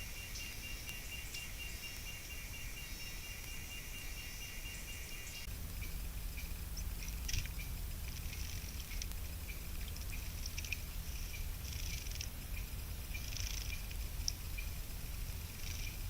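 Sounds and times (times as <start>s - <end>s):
insects trilling: 0.0s - 16.0s
low microphone rumble: 0.0s - 16.0s.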